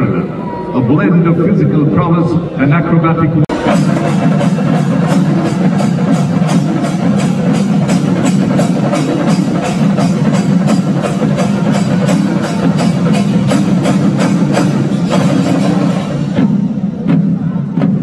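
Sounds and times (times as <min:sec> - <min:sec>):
percussion-driven music: 0:03.4 - 0:18.0.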